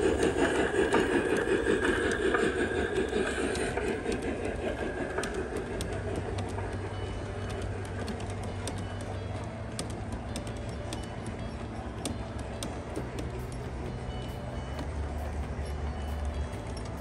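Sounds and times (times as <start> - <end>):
model train coaches rumbling: 0.0 - 17.0
wheels clicking over rail joints: 0.0 - 17.0.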